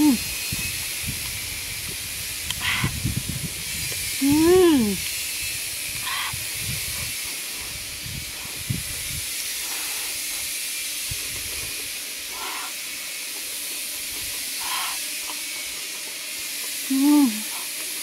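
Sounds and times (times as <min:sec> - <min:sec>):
high-pitched outdoor hiss: 0:00.0 - 0:18.0.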